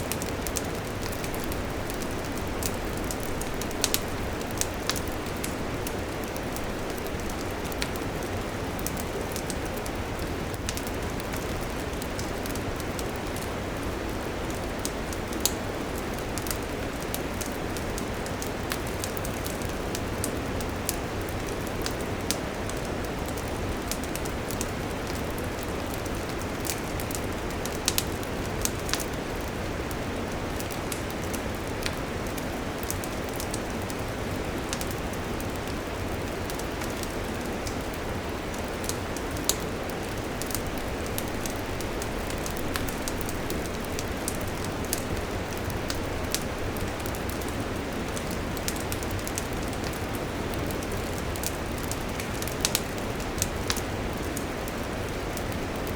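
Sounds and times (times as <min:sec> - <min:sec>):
campfire crackling and hissing: 0:00.0 - 0:55.9.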